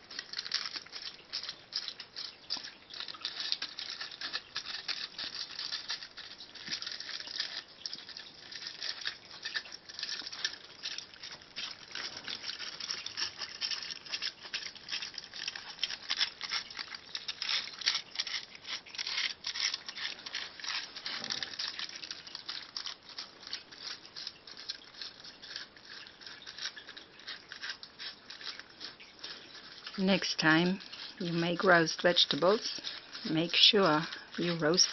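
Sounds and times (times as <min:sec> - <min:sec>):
aluminium foil crinkling: 0:00.0 - 0:34.9
cats licking and chewing: 0:00.0 - 0:34.9.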